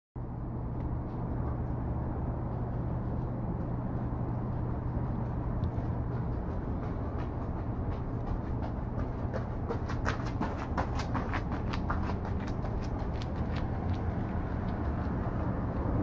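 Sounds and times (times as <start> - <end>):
low rumble: 0.2 - 16.0
steady hum: 0.2 - 16.0.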